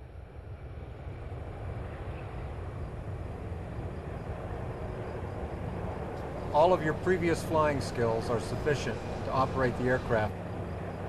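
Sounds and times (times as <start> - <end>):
aircraft engine rumble: 0.0 - 11.0.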